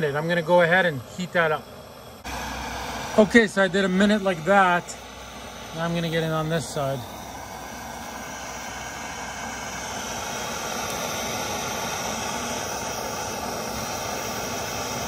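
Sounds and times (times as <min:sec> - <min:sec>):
blowtorch flame hissing: 0:00.0 - 0:15.0.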